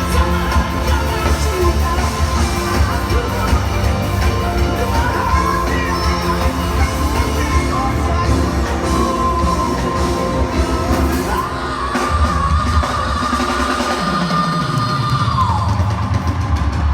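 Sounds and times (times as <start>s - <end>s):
person singing: 0.0s - 16.1s
rock band playing: 0.0s - 16.7s.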